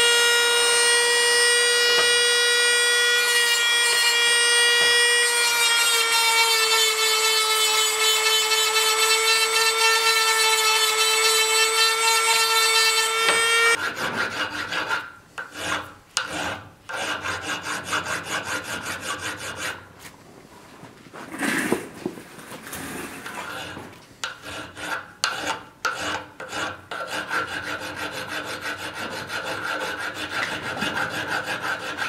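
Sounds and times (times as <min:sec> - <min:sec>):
hand file rasping on steel: 0:02.9 - 0:19.8, 0:23.2 - 0:32.0.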